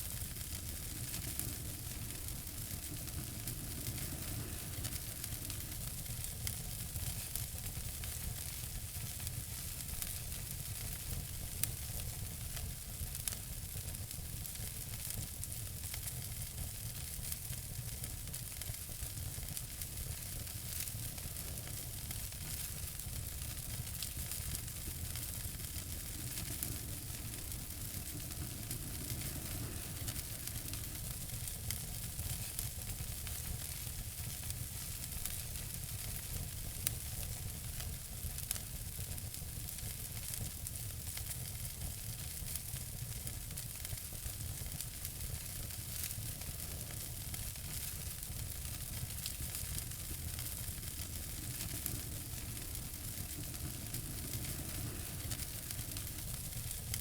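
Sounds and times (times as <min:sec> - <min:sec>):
wood fire crackling: 0:00.0 - 0:57.0
fire popping loudly: 0:00.1 - 0:09.1, 0:18.4 - 0:39.0, 0:39.7 - 0:57.0.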